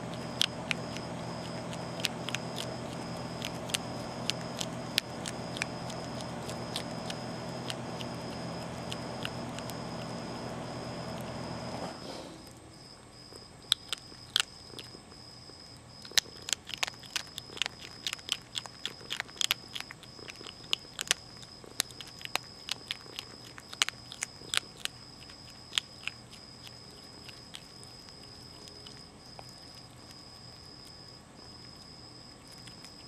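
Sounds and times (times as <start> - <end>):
animal crunching dry kibble: 0.0 - 12.5, 13.2 - 33.0.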